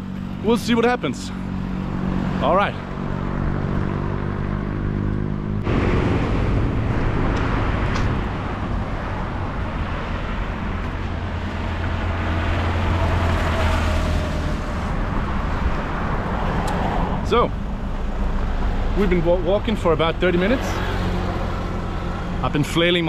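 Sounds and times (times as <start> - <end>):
steady engine drone: 0.0 - 23.0
vehicles passing on highway: 0.0 - 23.0.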